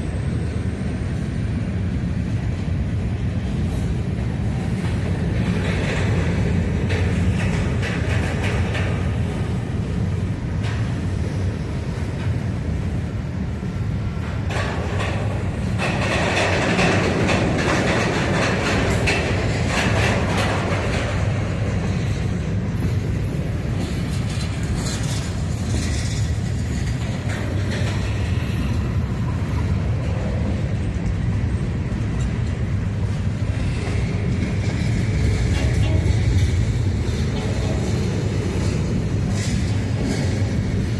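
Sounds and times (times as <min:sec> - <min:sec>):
freight train rumble: 0:00.0 - 0:40.9
train wheels clattering over rail joints: 0:00.7 - 0:40.9.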